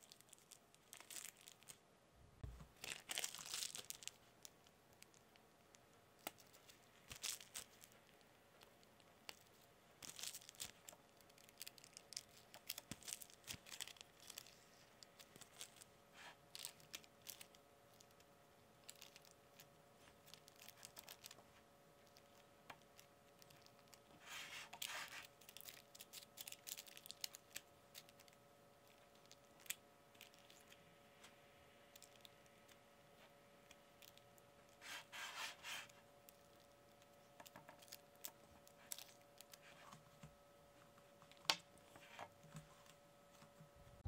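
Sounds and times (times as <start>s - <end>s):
parchment paper crinkling: 0.0s - 1.8s, 2.6s - 43.6s.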